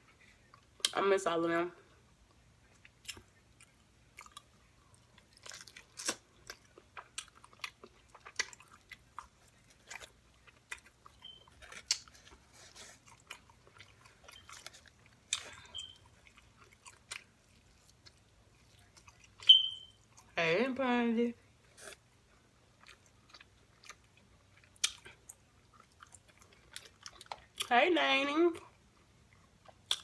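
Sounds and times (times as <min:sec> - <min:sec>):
person chewing and crunching food: 0:01.9 - 0:20.4, 0:21.4 - 0:27.7, 0:28.6 - 0:30.0.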